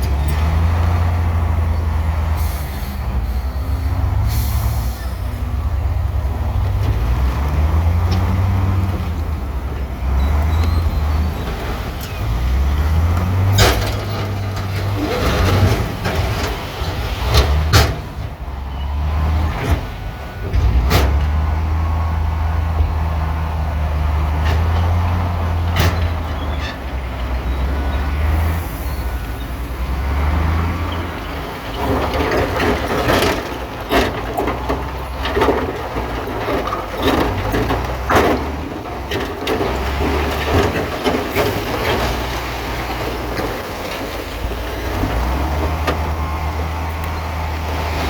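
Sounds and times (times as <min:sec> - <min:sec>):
bulldozer diesel engine: 0:00.0 - 0:48.0
steel tracks clanking on rock: 0:00.0 - 0:48.0.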